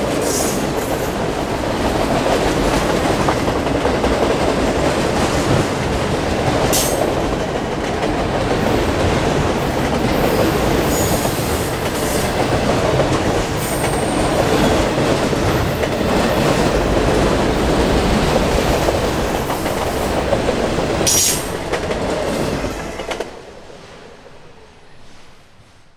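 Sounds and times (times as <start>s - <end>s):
freight train cars rumbling on rails: 0.0s - 25.9s.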